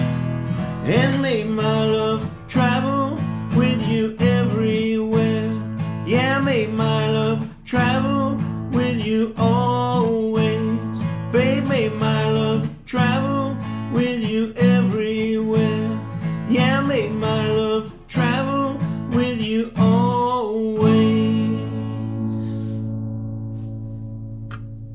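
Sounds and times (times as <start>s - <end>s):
acoustic guitar strumming: 0.0s - 24.9s.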